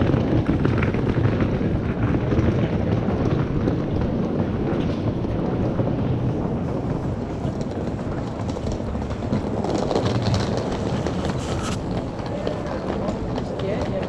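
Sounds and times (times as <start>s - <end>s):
low rumbling street noise: 0.0s - 14.0s.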